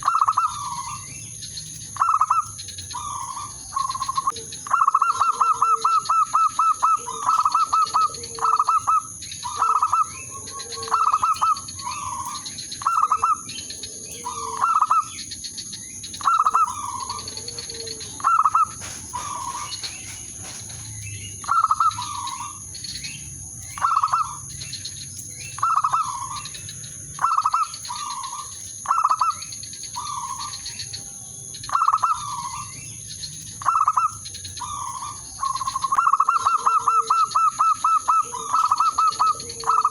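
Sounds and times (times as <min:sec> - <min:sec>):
dove cooing: 0:00.0 - 0:01.2, 0:01.9 - 0:24.6, 0:25.4 - 0:30.8, 0:31.7 - 0:32.9, 0:33.6 - 0:39.9.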